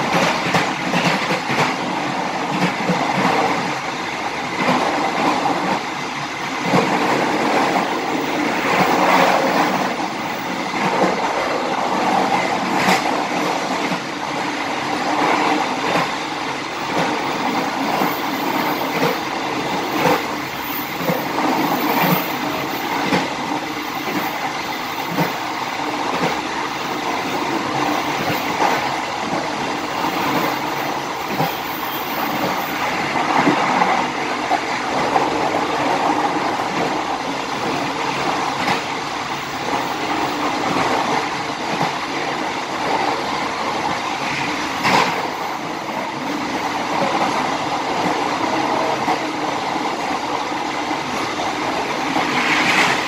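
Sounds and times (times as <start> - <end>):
train rolling on track: 0.0 - 53.0.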